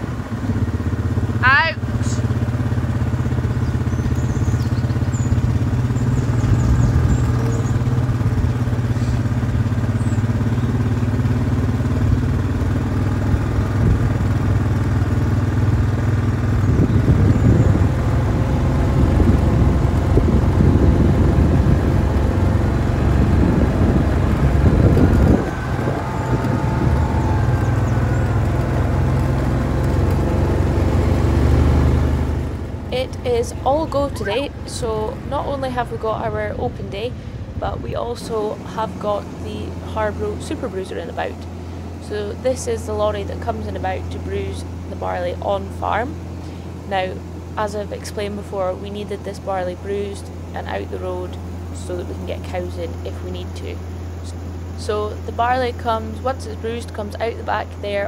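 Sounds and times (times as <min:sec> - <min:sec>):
farm vehicle engine running: 0:00.0 - 0:58.0.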